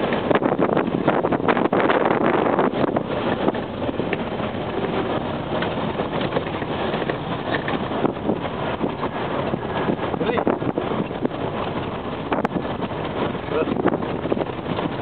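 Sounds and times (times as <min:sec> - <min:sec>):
vehicle engine and tyres rumbling: 0:00.0 - 0:15.0
vehicle body rattling: 0:02.3 - 0:15.0.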